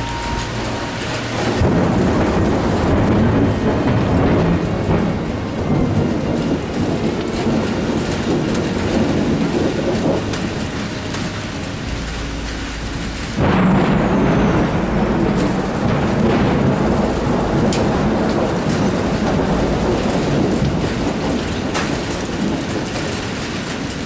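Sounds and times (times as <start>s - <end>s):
steady rain: 0.0s - 24.0s
thunder rumbling: 0.0s - 24.0s.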